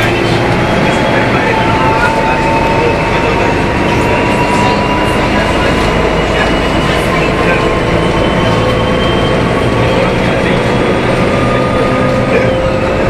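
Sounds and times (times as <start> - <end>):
bus engine rumble: 0.0 - 13.0
high steady whine: 0.0 - 13.0.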